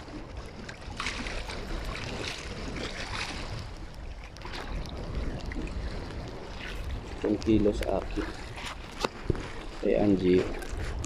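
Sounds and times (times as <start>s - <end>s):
water lapping and splashing: 0.0s - 11.0s
wind buffeting microphone: 0.0s - 11.0s.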